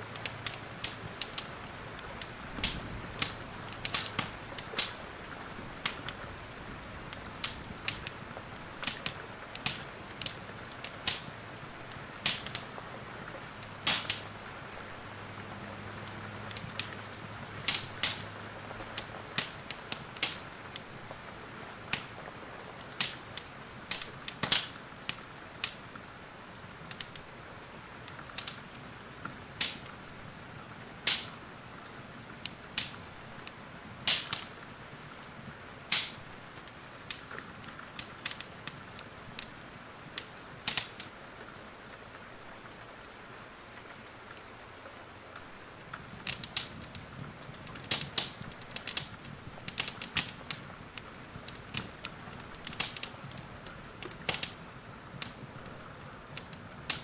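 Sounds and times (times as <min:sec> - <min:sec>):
rain hiss: 0:00.0 - 0:57.0
wood fire crackling: 0:00.0 - 0:57.0.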